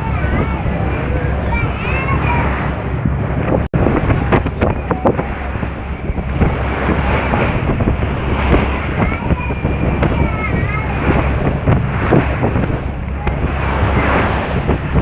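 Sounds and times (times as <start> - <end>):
sea waves washing: 0.0 - 15.0
wind buffeting the microphone: 0.0 - 15.0.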